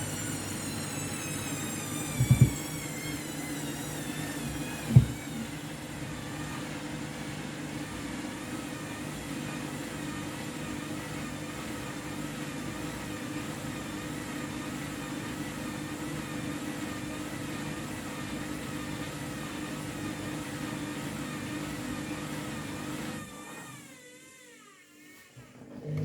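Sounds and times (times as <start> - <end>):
washing machine spinning: 0.0 - 24.7, 25.5 - 26.0.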